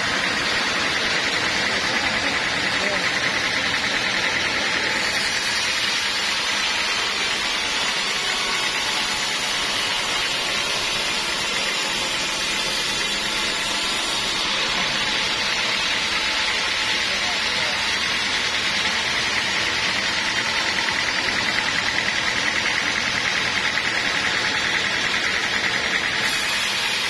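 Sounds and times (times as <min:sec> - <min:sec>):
sawmill machinery hissing: 0:00.0 - 0:27.0.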